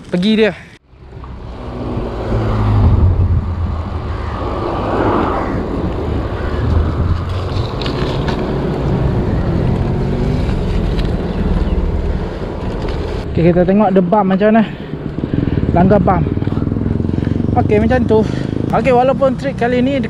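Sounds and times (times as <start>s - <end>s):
wind buffeting microphone: 1.0s - 19.0s.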